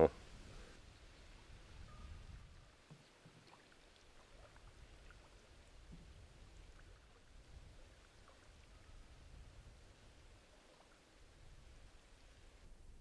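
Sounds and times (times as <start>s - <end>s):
faint water drips: 0.5s - 12.8s.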